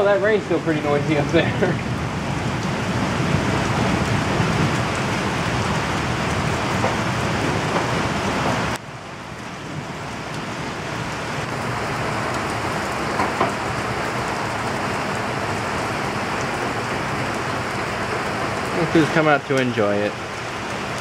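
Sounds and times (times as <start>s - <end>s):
heavy rain on roof: 0.0s - 21.0s.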